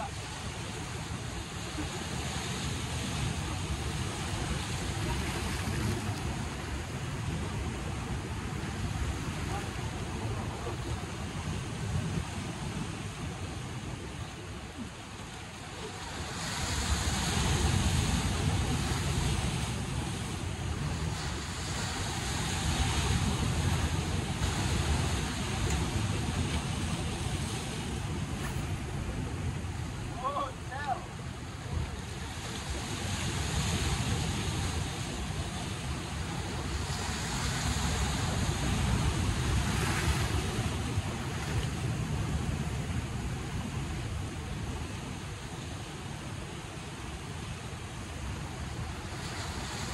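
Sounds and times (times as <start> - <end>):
wind rumbling on microphone: 0.0 - 49.9.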